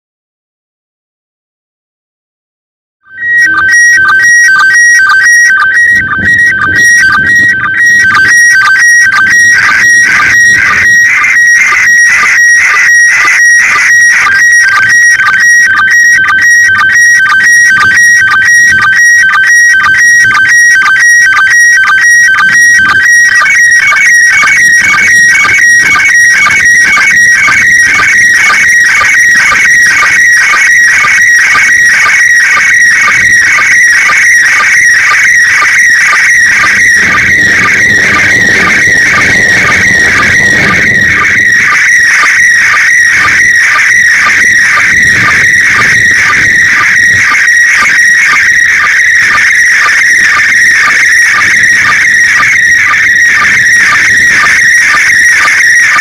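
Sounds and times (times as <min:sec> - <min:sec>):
short lower beeps: 0:03.1 - 0:54.3
warbling radio tones: 0:03.1 - 0:56.0.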